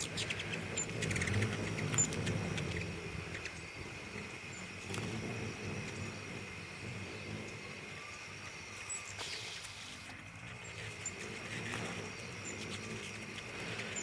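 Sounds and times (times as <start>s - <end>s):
hummingbirds chattering: 0.0s - 14.0s
sharp ticking bird calls: 0.0s - 14.0s
steady low hum: 0.0s - 14.0s.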